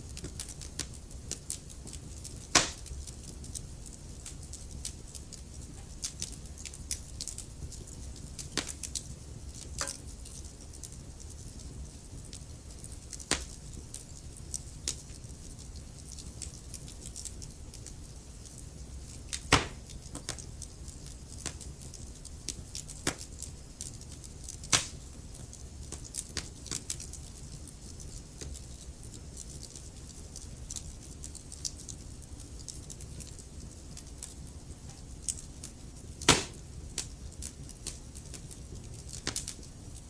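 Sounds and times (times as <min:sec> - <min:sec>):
logs crackling and popping: 0:00.0 - 0:40.0
low rumble of flames: 0:00.0 - 0:40.0.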